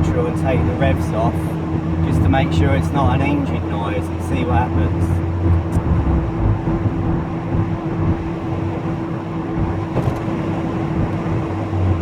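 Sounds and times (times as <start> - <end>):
road noise: 0.0 - 12.0
steady whine: 0.1 - 12.0.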